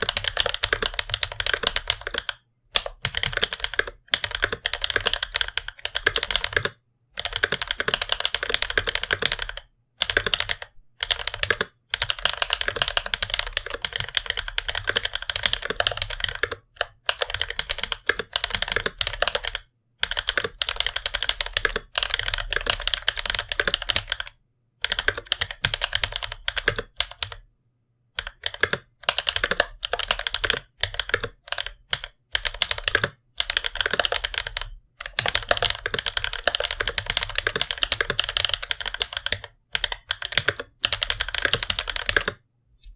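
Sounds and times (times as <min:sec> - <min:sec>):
mechanical keyboard typing: 0:00.0 - 0:27.4, 0:28.2 - 0:42.4.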